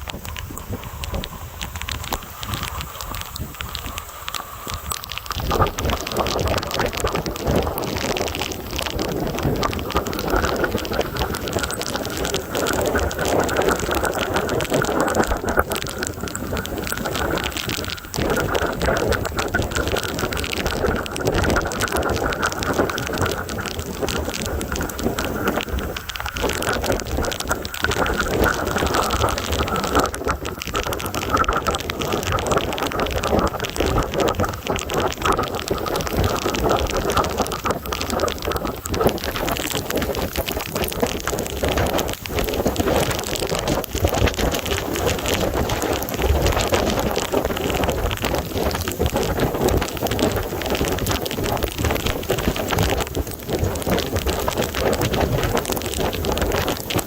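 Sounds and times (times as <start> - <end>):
heavy rain spattering: 0.0 - 57.0.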